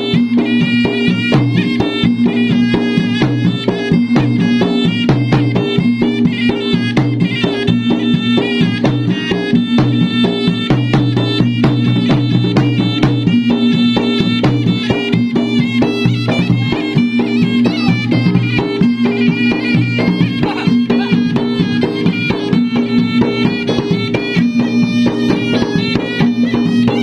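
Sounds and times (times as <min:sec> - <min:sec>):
drums beaten in fast rhythm: 0:00.0 - 0:27.0
reedy wind instrument melody: 0:00.0 - 0:27.0.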